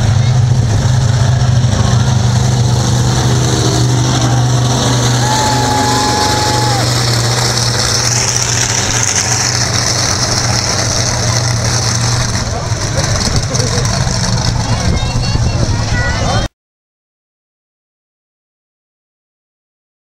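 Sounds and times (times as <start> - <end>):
large vehicle engine running: 0.0 - 16.5.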